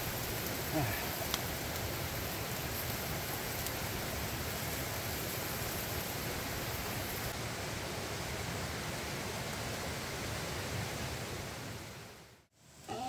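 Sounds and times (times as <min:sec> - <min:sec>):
rushing hiss of water: 0:00.0 - 0:13.0.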